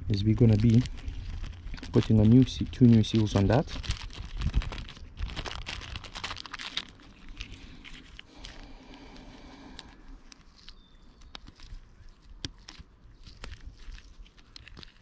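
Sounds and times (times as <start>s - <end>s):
crackling rustle of parts: 0.1s - 15.0s.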